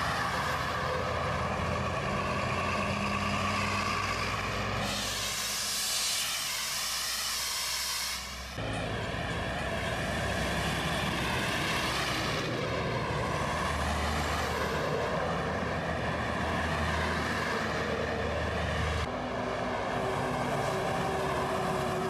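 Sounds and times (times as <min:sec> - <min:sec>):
lorries passing close by: 0:00.0 - 0:22.0.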